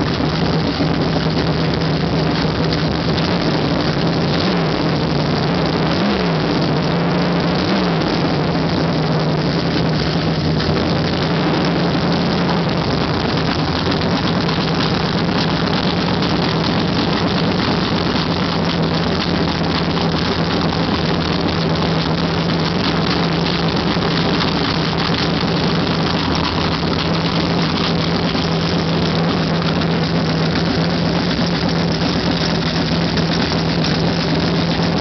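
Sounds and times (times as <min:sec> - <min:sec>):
car engine idling loudly: 0:00.0 - 0:35.0
engine throttle blips: 0:00.0 - 0:35.0.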